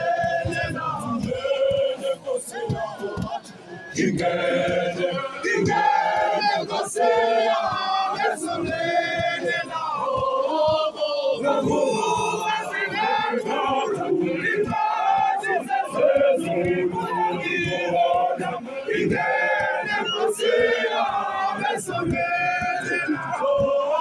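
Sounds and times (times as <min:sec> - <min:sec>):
men's choir singing gospel: 0:00.0 - 0:24.0.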